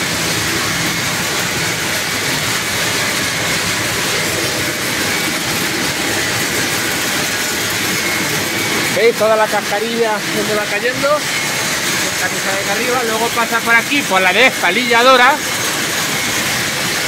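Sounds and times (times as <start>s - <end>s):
nut cleaning machinery running: 0.0s - 17.0s.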